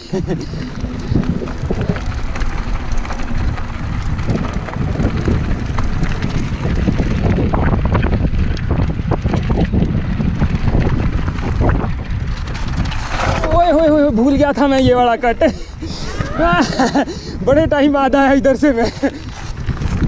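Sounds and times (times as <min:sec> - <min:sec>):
bike rattling over bumps: 0:00.0 - 0:20.0
wind buffeting microphone: 0:00.0 - 0:20.0.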